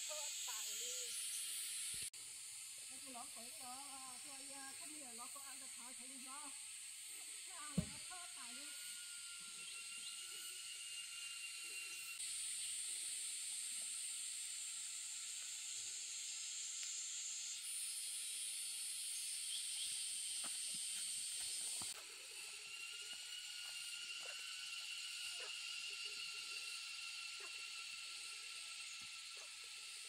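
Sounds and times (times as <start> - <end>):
high-pitched hiss: 0.0 - 30.0.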